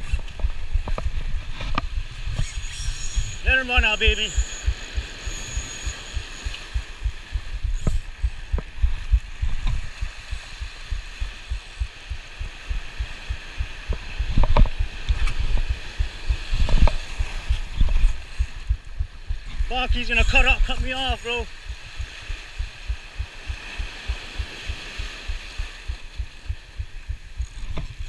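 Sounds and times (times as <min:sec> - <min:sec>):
sharp reel clicks: 0:01.8 - 0:28.0.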